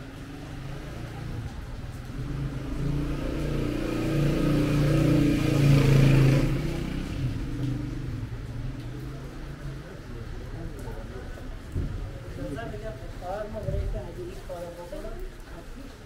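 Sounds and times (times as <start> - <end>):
vehicle passing on wet street: 0.0 - 16.0.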